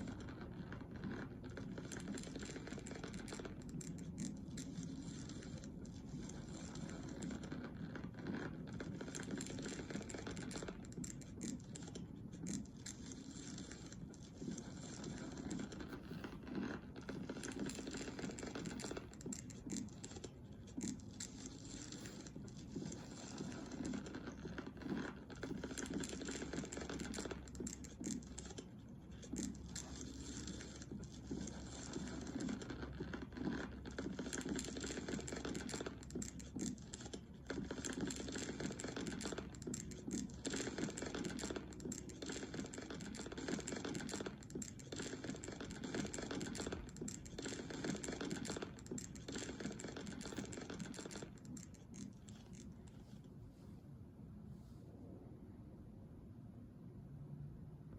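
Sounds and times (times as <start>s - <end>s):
irregular scratching and scraping: 0.0s - 54.9s.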